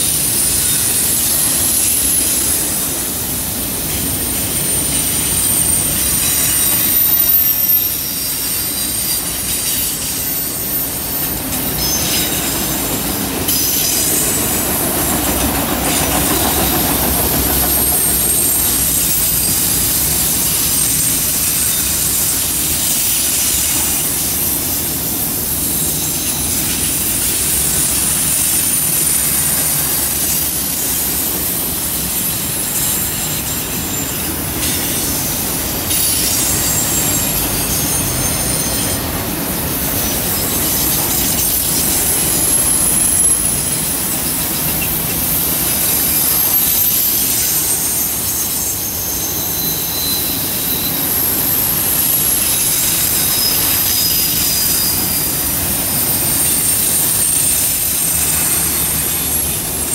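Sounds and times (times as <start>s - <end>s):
high thin wheel squeal: 0.0s - 59.9s
train wheels rumbling on rails: 0.0s - 59.9s.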